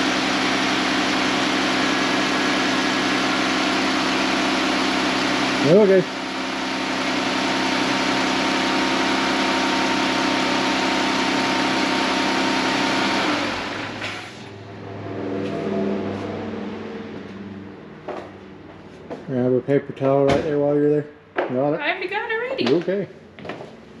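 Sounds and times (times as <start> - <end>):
car engine idling: 0.0 - 19.5.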